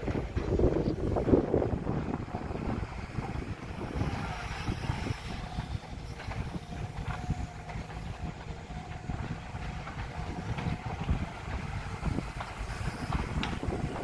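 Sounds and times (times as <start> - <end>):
excavator diesel engine rumble: 0.0 - 14.0.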